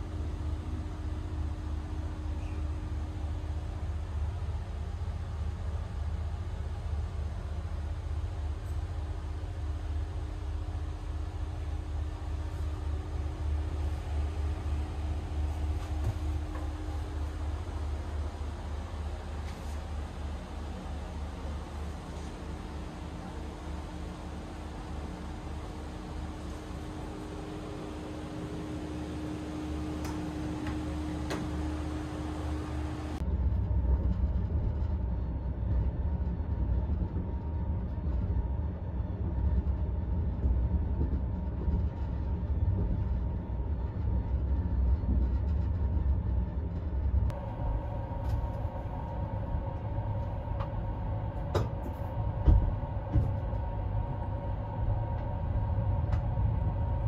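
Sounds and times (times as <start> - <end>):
train rumble: 0.0 - 57.0
ventilation hum: 0.0 - 57.0.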